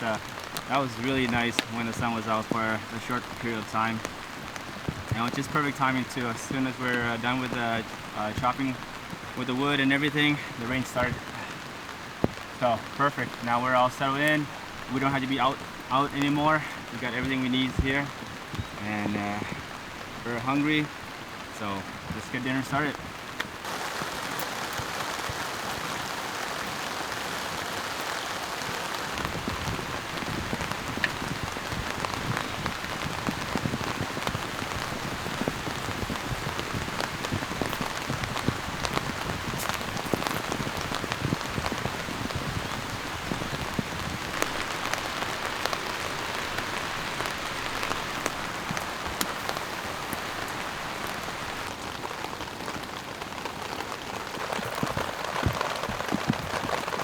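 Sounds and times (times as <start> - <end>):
rain on tent fabric: 0.0 - 57.0
raindrop ticks: 0.0 - 57.0.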